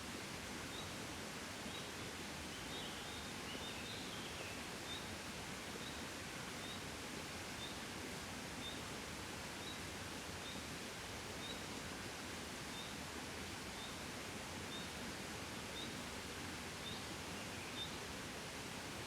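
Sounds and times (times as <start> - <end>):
gentle breeze: 0.0 - 19.0.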